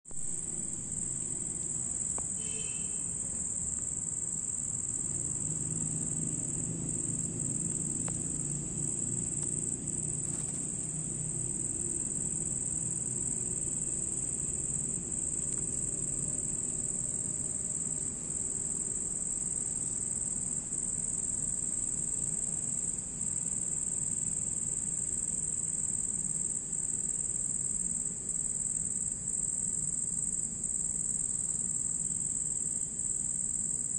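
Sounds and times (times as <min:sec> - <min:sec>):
cricket chirping: 0:00.1 - 0:33.9.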